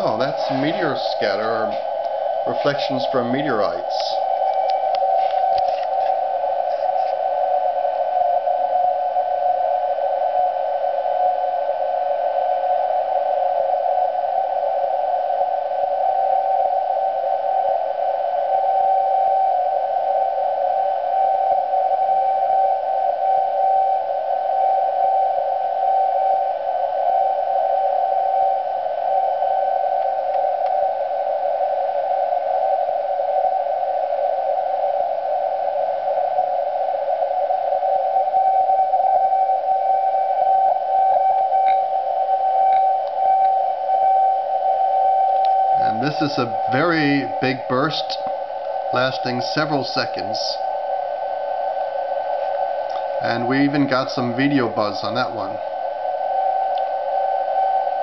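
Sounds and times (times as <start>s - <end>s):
radio hiss: 0.0s - 12.1s, 12.7s - 58.0s.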